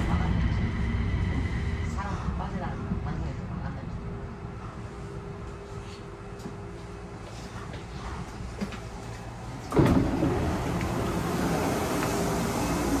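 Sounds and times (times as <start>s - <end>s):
rubber-tyred train running: 0.0s - 13.0s.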